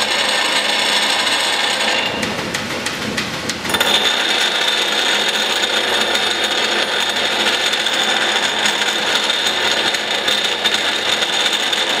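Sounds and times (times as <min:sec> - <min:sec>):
grinder grinding metal: 0:00.0 - 0:02.4, 0:03.7 - 0:12.0.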